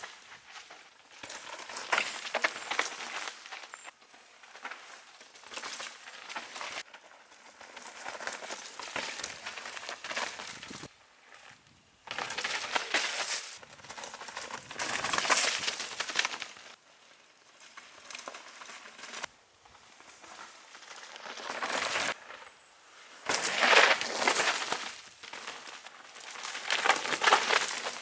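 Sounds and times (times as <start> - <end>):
bike tyres crunching on dirt: 0.0 - 28.0.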